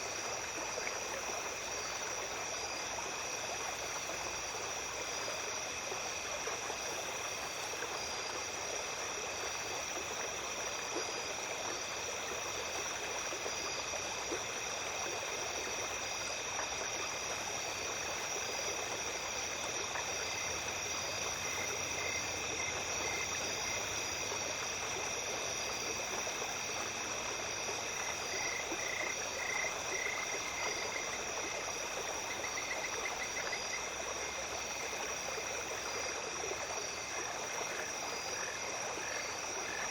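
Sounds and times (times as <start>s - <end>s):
insect chorus: 0.0s - 39.9s
small stream flowing: 0.0s - 39.9s.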